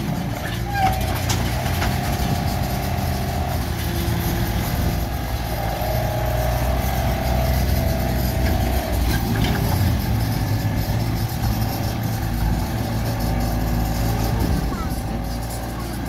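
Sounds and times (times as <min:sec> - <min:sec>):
excavator diesel engine: 0:00.0 - 0:16.0
higher whine: 0:01.5 - 0:16.0.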